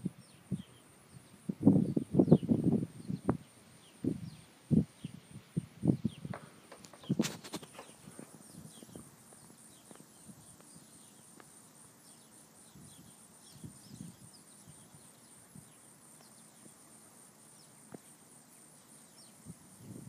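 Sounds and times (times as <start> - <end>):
faint high insect drone: 0.0 - 20.0
small birds chirping: 0.0 - 20.0.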